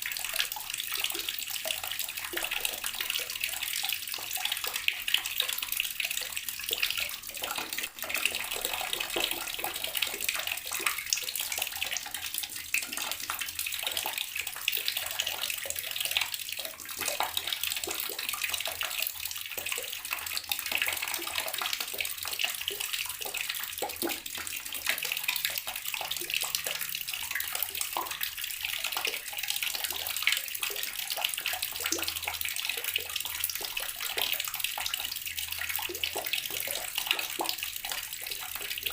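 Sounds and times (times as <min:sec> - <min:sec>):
tap water splashing into basin: 0:00.0 - 0:38.9.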